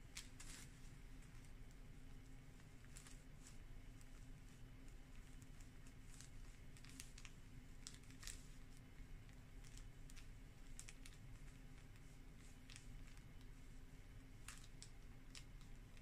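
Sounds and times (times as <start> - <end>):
fabric clicks and rustles: 0.0 - 16.0
low steady hum: 0.0 - 16.0.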